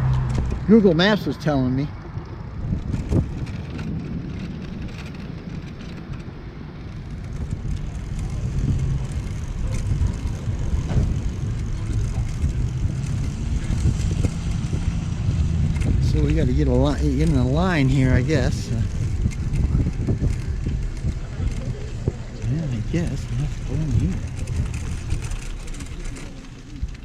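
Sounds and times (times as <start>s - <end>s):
wind and road noise rumble: 0.0s - 27.0s.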